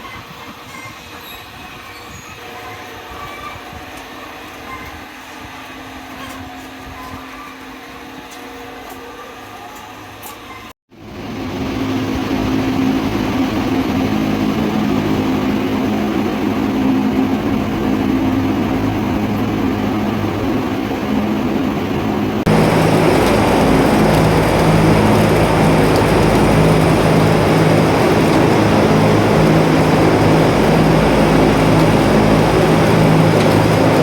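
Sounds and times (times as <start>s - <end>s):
machinery running with low hum: 0.0s - 34.0s.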